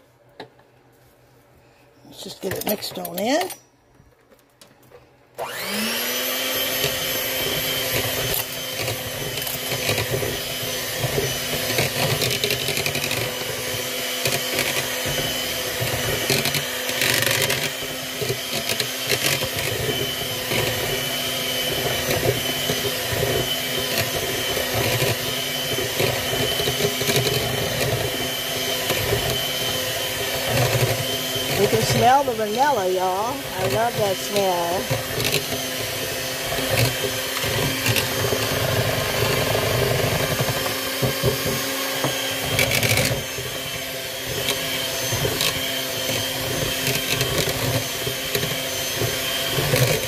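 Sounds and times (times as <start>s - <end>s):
electric hand mixer whine: 5.4s - 50.0s.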